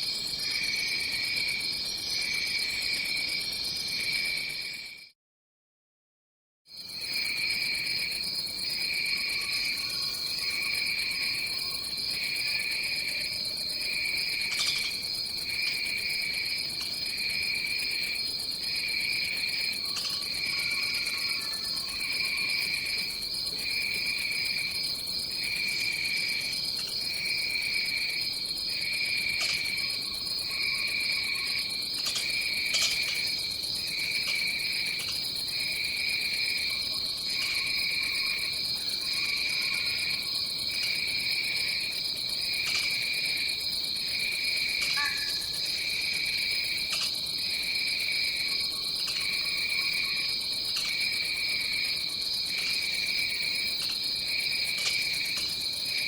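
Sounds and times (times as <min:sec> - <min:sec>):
pulsing low insect trill: 0:06.8 - 0:56.0
high insect trill: 0:06.9 - 0:56.0.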